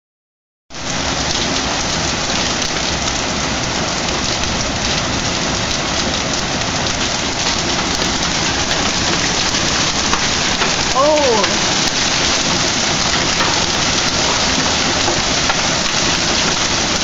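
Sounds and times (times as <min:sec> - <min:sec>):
hail and rain pelting down: 0:00.8 - 0:17.0.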